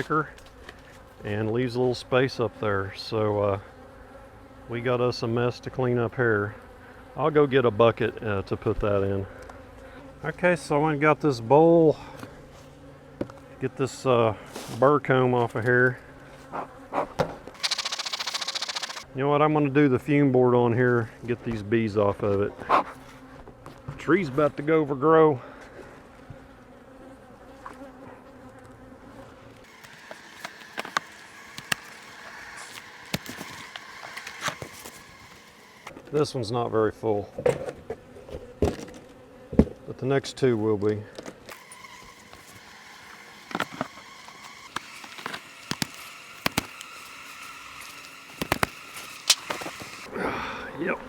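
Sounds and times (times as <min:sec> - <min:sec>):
honeybees buzzing: 0:00.0 - 0:20.2, 0:22.8 - 0:36.1, 0:37.1 - 0:51.0.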